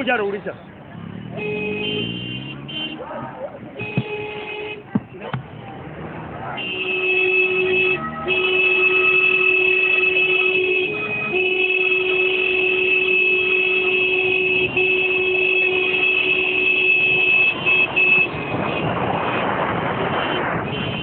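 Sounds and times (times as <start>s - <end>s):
traffic noise: 0.0s - 21.0s
vehicle horn steady tone: 0.6s - 3.2s, 3.8s - 4.9s, 6.6s - 19.0s, 20.1s - 21.0s.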